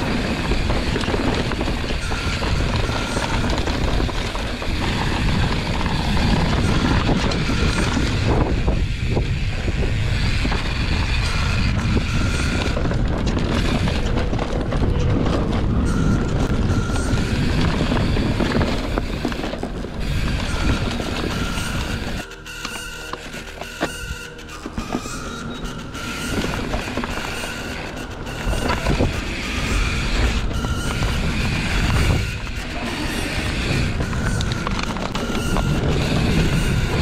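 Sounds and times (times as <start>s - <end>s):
wind rushing over microphone: 0.0s - 22.3s, 23.9s - 37.0s
bike rattling: 0.0s - 37.0s.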